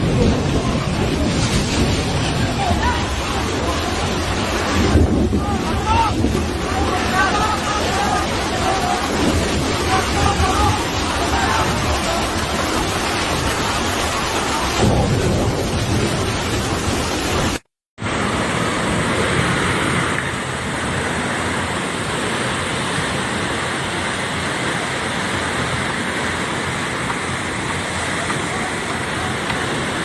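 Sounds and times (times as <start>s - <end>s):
heavy water rushing: 0.0s - 30.0s.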